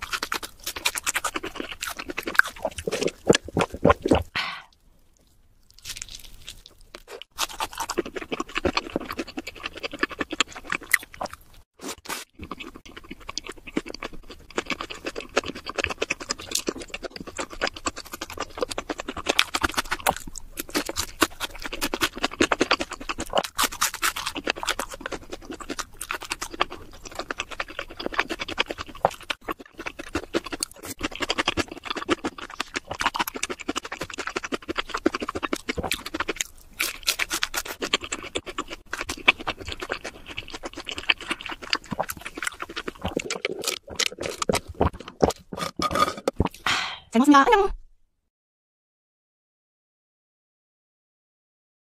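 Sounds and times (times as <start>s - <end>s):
chewing crispy fried food: 0.0s - 4.3s, 5.1s - 46.6s.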